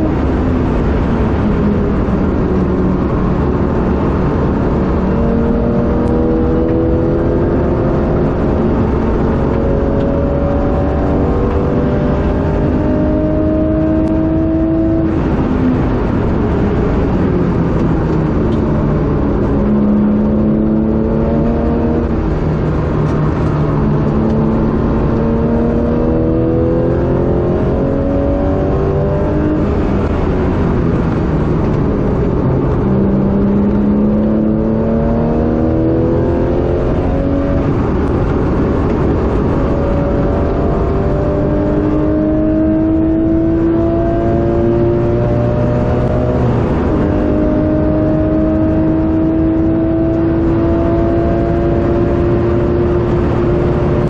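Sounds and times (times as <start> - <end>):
car engine accelerating hard: 0.0 - 54.0
tyre and road noise: 0.0 - 54.0.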